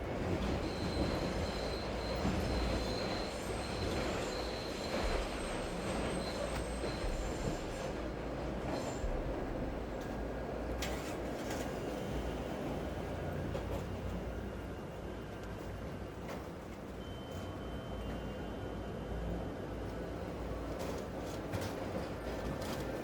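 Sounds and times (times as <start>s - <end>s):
train running on rails: 0.0s - 23.0s.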